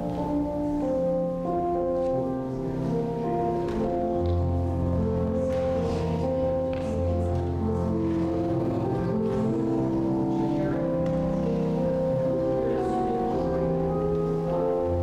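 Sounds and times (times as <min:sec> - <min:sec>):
digital keyboard chords: 0:00.0 - 0:15.0.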